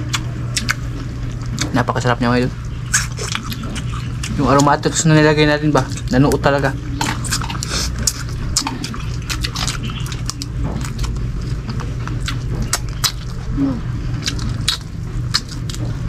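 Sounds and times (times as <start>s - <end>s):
chewing and lip smacks: 0.0s - 1.8s, 2.6s - 5.0s, 6.9s - 16.0s
steady low hum: 0.0s - 16.0s.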